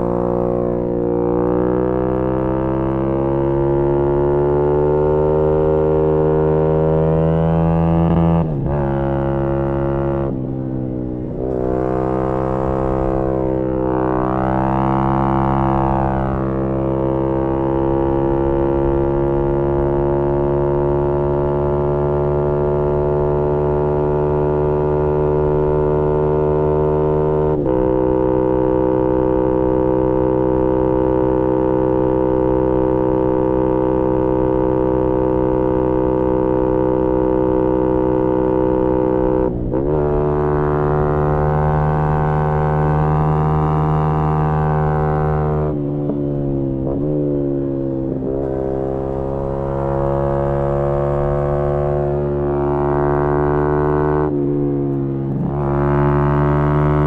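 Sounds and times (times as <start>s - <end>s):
motorcycle engine revving high: 0.0s - 57.0s.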